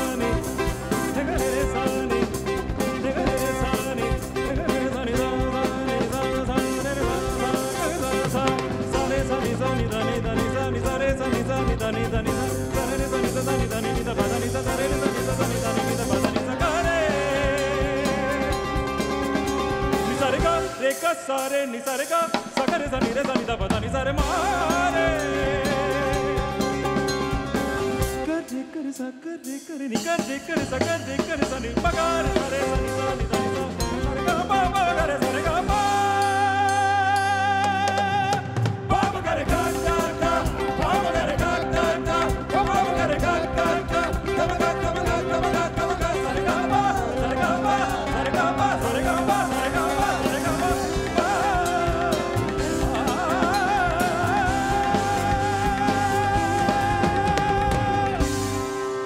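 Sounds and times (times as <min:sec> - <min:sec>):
electric guitar: 0:00.0 - 0:29.4, 0:30.0 - 0:59.0
man singing: 0:00.0 - 0:59.0
rock band playing live: 0:00.0 - 0:59.0.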